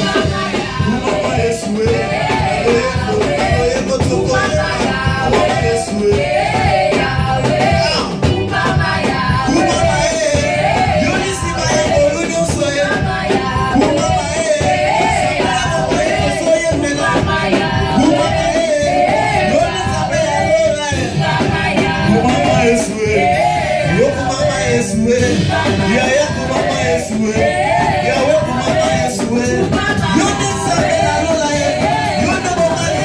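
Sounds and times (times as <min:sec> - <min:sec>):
gospel choir and band: 0:00.0 - 0:33.0.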